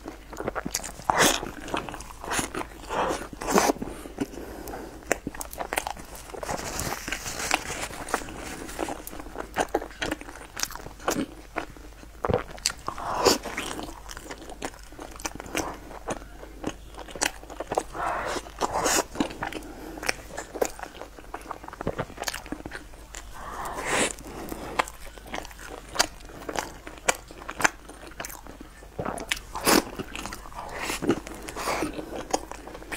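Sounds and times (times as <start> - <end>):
person chewing bread: 0.0 - 32.9.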